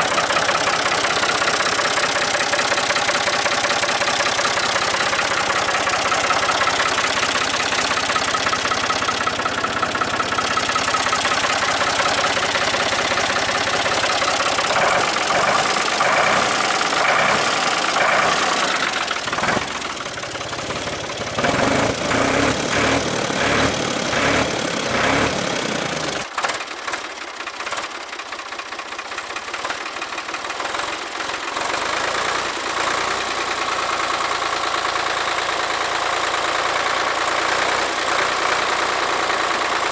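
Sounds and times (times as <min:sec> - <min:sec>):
tractor engine idling with clatter: 0:00.0 - 0:39.9.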